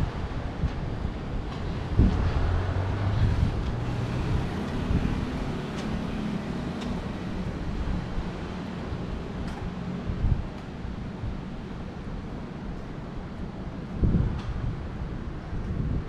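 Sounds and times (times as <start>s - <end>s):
vehicle engines humming: 0.0s - 13.0s
road noise: 0.0s - 16.0s
wind on microphone: 0.0s - 16.0s.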